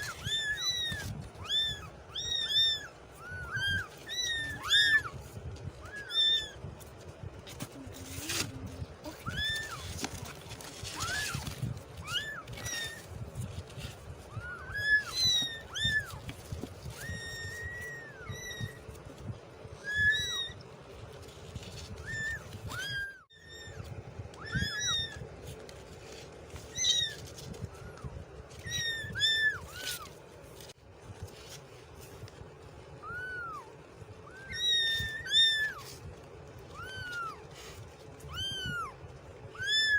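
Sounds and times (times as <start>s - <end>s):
kittens meowing: 0.0s - 20.9s, 21.5s - 25.4s, 26.6s - 30.2s, 33.0s - 39.9s.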